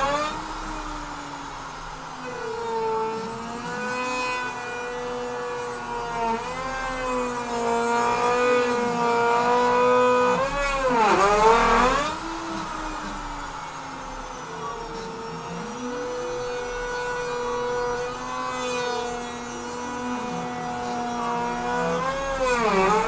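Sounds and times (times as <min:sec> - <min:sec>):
router spindle whining cutting wood: 0:00.0 - 0:23.0.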